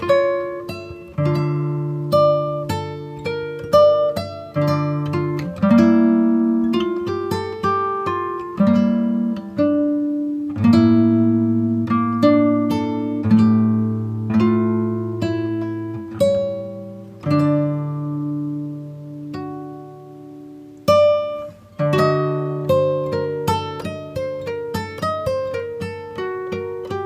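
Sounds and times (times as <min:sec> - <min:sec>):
plucked acoustic guitar: 0:00.0 - 0:27.0.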